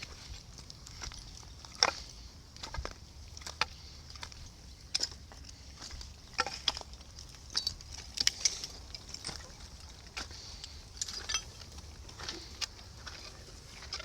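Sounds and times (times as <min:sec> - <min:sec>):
livestock hooves clicking and knocking: 0:00.0 - 0:14.0.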